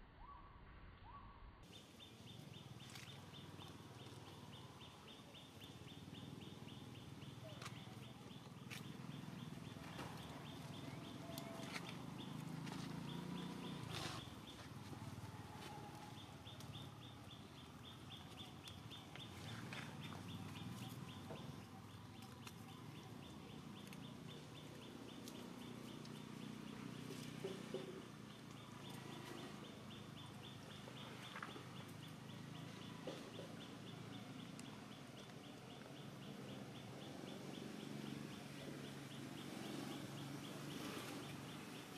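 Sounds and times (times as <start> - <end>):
animal calls and clucks: 2.4 - 41.9.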